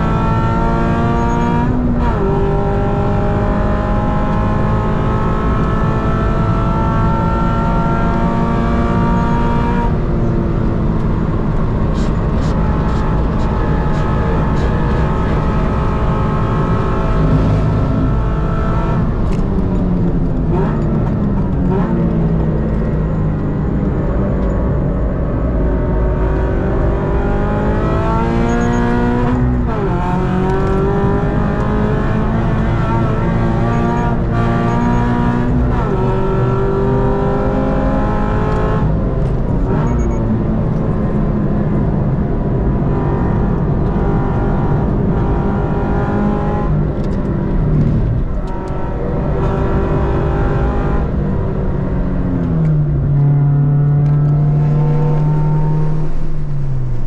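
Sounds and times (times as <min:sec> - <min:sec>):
car engine pulling hard: 0:00.0 - 0:57.0.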